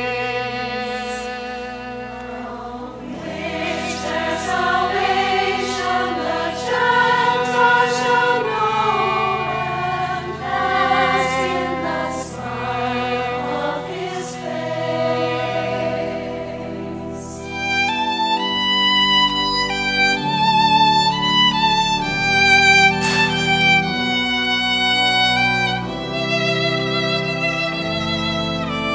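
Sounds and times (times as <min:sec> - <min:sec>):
solo violin: 0:00.0 - 0:28.9
sustained organ notes: 0:00.0 - 0:28.9
women's choir singing a hymn: 0:00.0 - 0:28.9.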